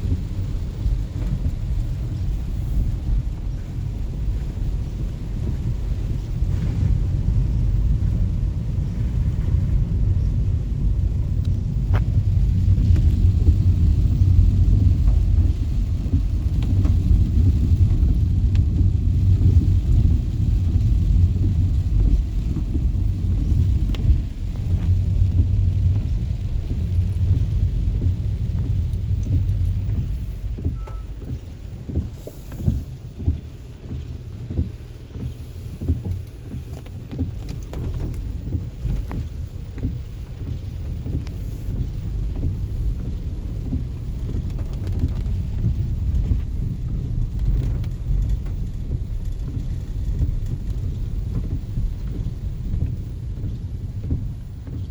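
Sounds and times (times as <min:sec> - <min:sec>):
raindrops ticking: 0:00.0 - 0:54.9
rainstorm rumble: 0:00.0 - 0:54.9
wind buffeting microphone: 0:00.0 - 0:54.9.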